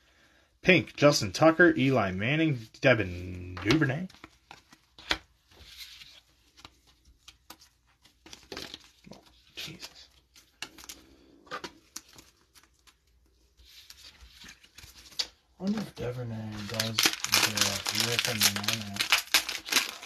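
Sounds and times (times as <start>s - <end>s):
card and plastic rustling: 3.3s - 20.0s.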